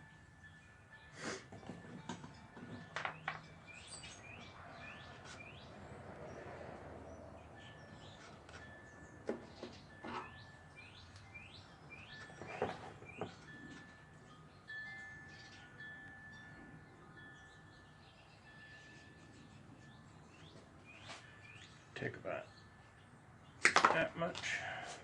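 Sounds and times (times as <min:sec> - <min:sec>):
birds chirping: 0:01.8 - 0:25.0.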